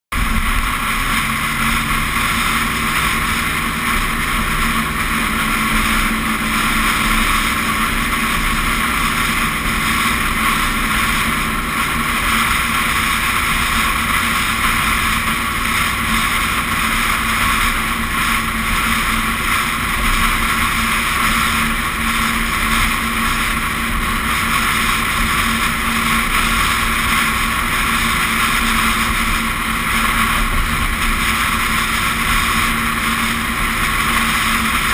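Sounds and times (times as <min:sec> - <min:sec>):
steady low hum: 0:00.1 - 0:34.9
wind and road noise: 0:00.1 - 0:34.9.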